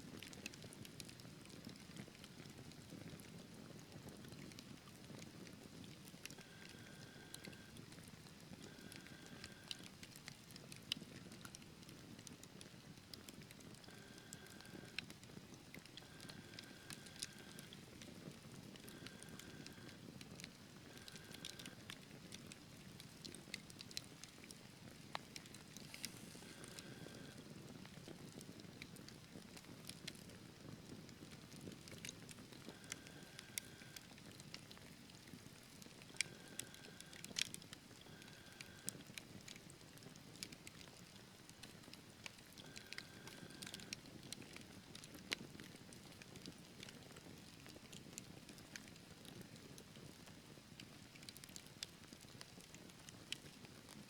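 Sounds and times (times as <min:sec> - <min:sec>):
low rumble of flames: 0:00.0 - 0:52.8
crackling logs popping: 0:03.2 - 0:50.1.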